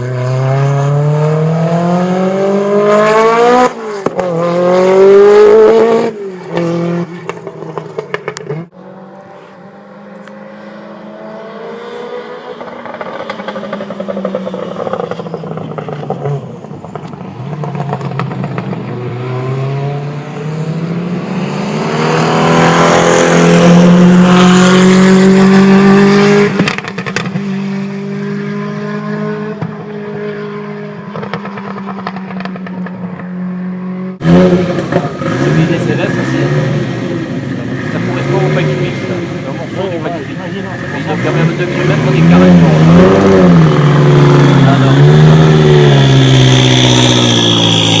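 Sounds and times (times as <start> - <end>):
car approaching: 0.0 - 48.0
race car engine revving: 0.0 - 48.0.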